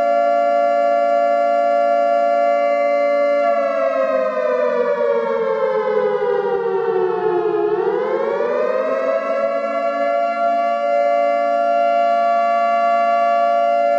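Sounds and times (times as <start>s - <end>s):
siren wailing: 0.0s - 13.9s.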